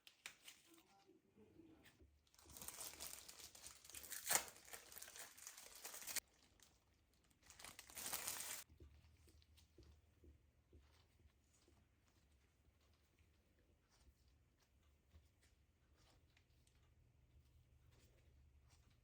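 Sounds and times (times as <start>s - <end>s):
crinkling and rustling: 1.9s - 19.0s.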